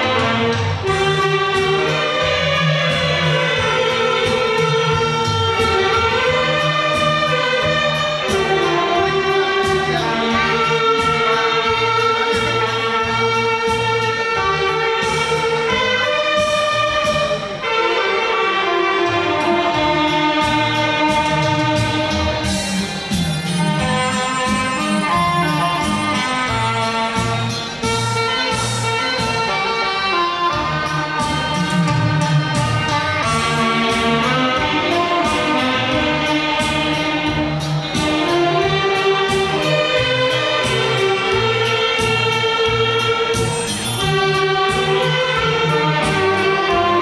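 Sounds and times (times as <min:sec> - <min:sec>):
low accompaniment: 0:00.0 - 0:47.0
saxophone ensemble playing: 0:00.0 - 0:47.0.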